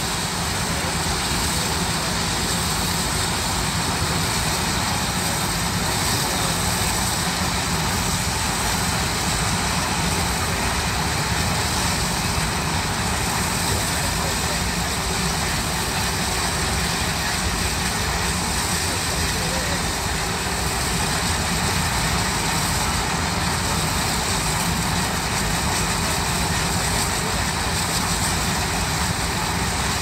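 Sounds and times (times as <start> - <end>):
steam shovels rumbling and hissing: 0.0 - 30.0.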